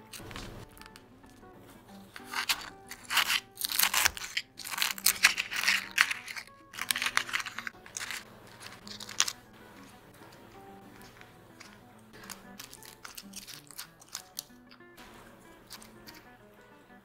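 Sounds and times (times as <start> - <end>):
fried food and paper crackling: 0.0 - 17.0
soft background music: 0.0 - 17.0.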